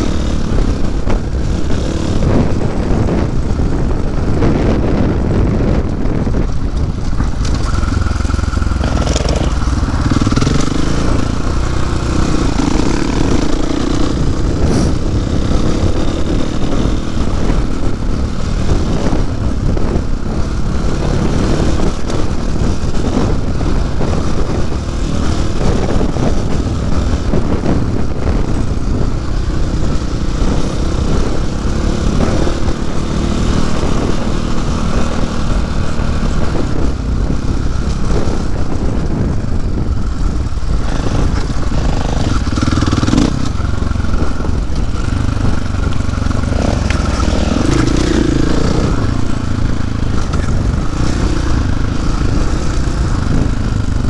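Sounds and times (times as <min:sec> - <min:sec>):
dirt bike engine running: 0:00.0 - 0:54.0
road and wind noise: 0:00.0 - 0:54.0.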